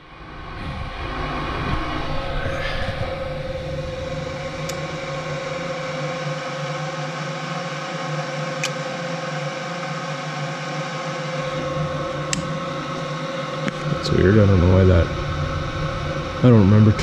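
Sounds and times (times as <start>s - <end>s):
machine hum with whine: 0.0s - 17.0s.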